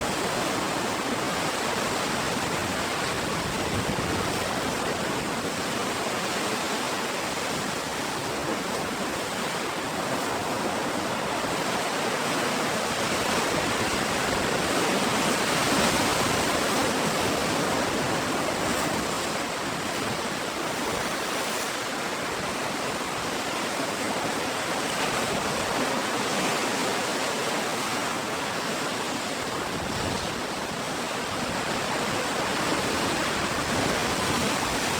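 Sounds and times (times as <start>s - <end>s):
ocean surf washing: 0.0s - 34.9s.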